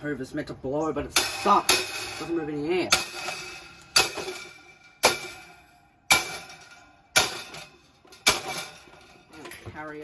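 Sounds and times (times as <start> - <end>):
metal fan struck clanging: 1.1 - 9.6.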